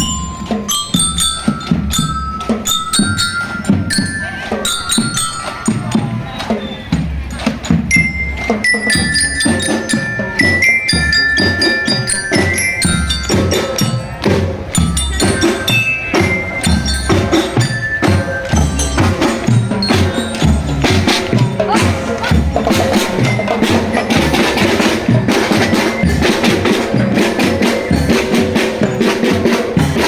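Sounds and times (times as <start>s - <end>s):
glockenspiel melody: 0.0s - 30.0s
snare and bass drums beat: 0.0s - 30.0s.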